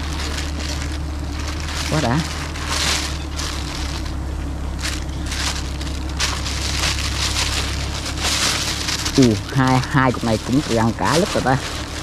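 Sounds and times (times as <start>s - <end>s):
plastic bag rustling: 0.0s - 12.0s
steady low hum: 0.0s - 12.0s.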